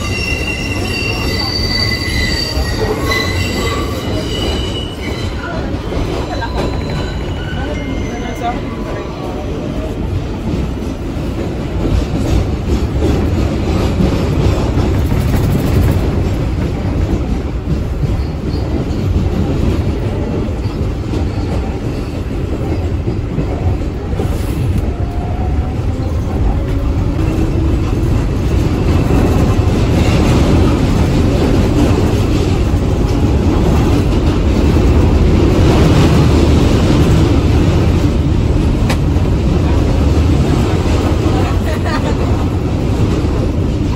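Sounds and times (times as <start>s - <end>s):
subway wheels rumbling on track: 0.0s - 43.9s.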